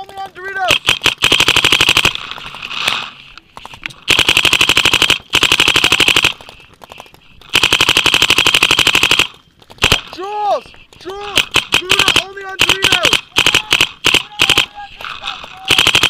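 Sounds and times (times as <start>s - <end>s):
paintball marker rapid firing: 0.0s - 16.0s.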